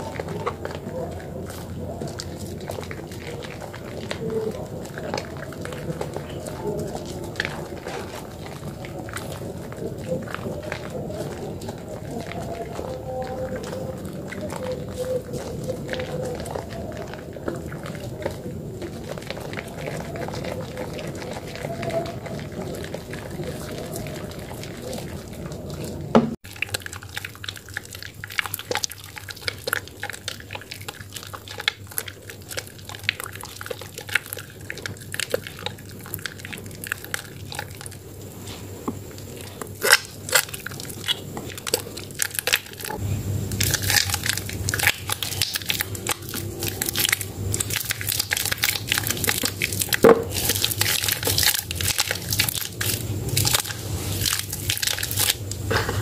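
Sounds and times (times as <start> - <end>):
wet soap squishing by hand: 0.0 - 56.0.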